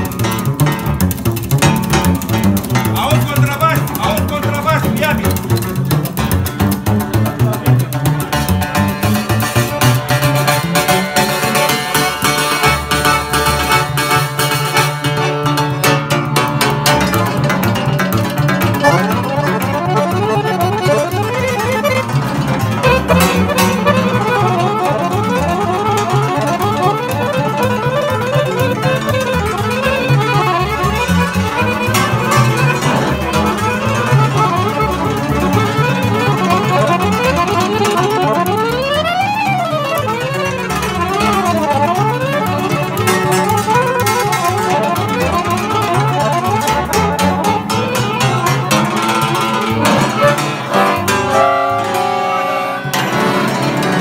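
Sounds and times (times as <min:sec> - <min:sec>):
accordion: 0:00.0 - 0:54.0
cimbalom: 0:00.0 - 0:54.0
double bass: 0:00.0 - 0:54.0
violin: 0:00.0 - 0:54.0.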